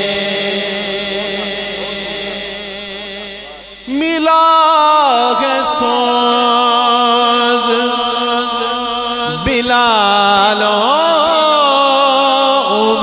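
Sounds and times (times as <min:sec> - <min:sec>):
steady drone: 0:00.0 - 0:12.9.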